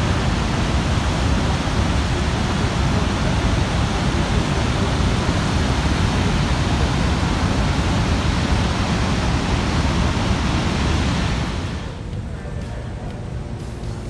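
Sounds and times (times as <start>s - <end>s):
waterfall roaring: 0.0s - 12.6s.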